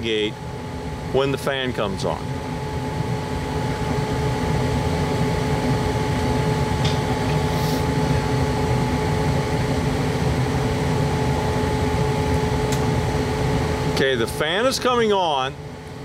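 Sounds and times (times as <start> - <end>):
furnace whine: 0.0 - 16.0
gas furnace burner rumble: 0.0 - 16.0.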